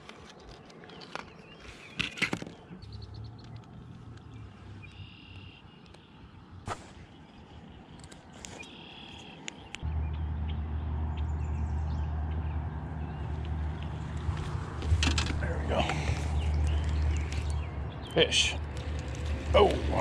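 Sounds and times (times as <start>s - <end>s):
birds chirping: 0.3s - 20.0s.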